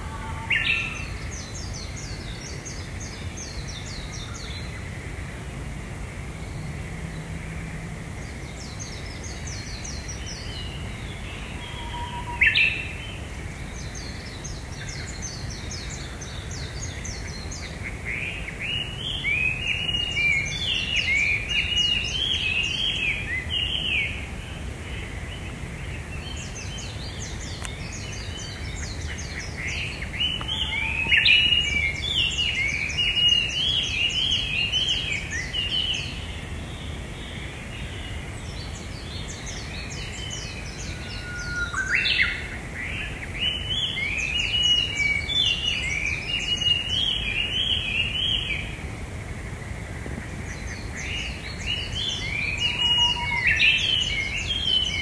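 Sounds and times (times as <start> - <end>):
small birds chirping song: 0.0 - 55.0.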